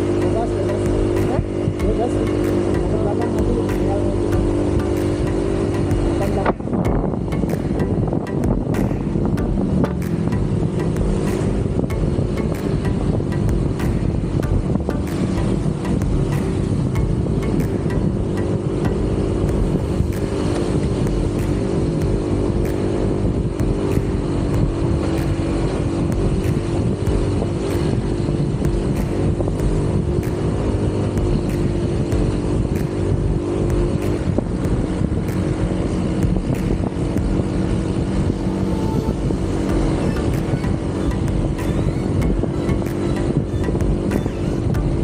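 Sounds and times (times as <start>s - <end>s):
motorcycle engine cruising: 0.0s - 45.0s
wind rumble and road noise: 0.0s - 45.0s.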